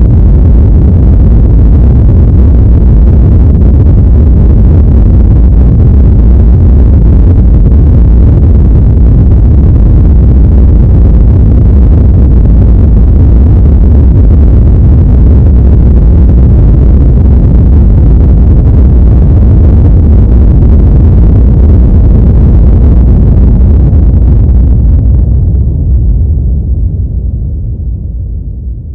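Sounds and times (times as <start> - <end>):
deep earthquake rumble: 0.0 - 28.9.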